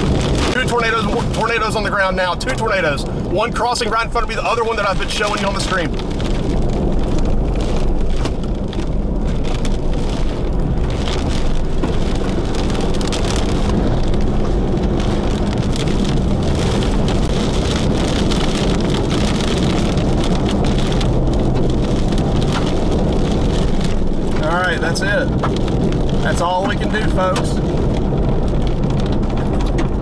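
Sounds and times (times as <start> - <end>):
low rumble: 0.0 - 30.0
rain and wind beating on vehicle: 0.0 - 30.0.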